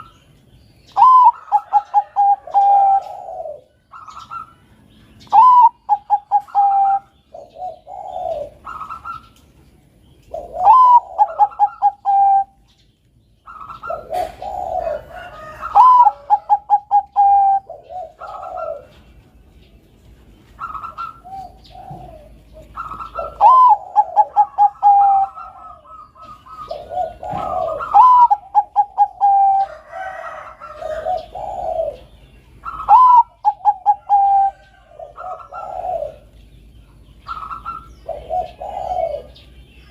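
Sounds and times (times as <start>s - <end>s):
doves cooing: 0.0s - 12.8s, 13.4s - 39.9s.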